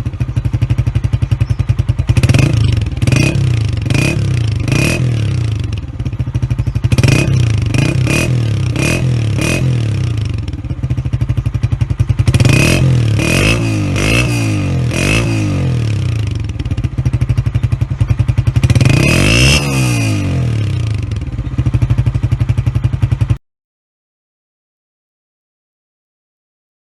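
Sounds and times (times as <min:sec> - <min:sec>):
motorcycle engine revving: 0:00.0 - 0:23.4.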